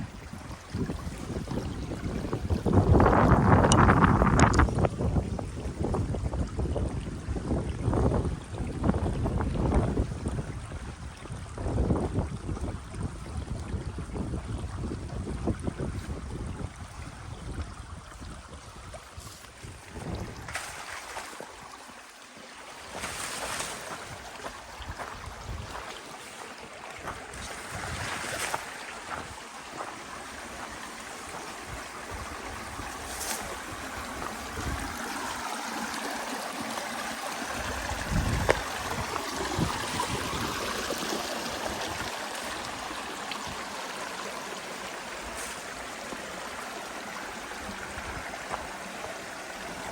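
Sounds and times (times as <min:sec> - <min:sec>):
wind buffeting microphone: 0:00.0 - 0:20.7, 0:22.9 - 0:26.0, 0:27.0 - 0:29.5, 0:30.1 - 0:36.3, 0:37.0 - 0:49.9
stream water rushing: 0:00.0 - 0:49.9.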